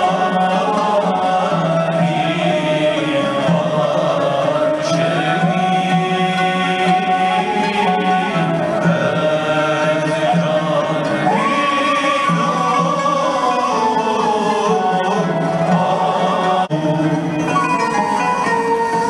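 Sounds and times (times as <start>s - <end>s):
low pulsing accompaniment: 0.0s - 19.0s
person singing long held lines: 0.0s - 19.0s.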